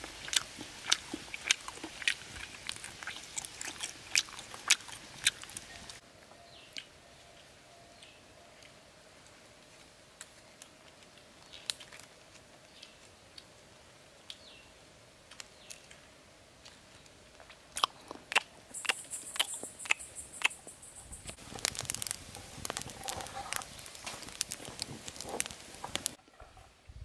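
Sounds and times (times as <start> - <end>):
campfire crackling: 0.0 - 6.0, 8.5 - 26.2.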